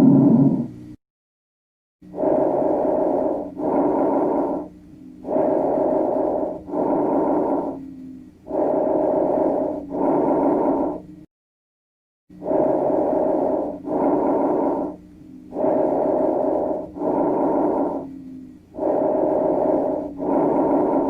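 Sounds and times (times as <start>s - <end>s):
breathing through a stethoscope: 2.1s - 11.3s, 12.4s - 21.0s.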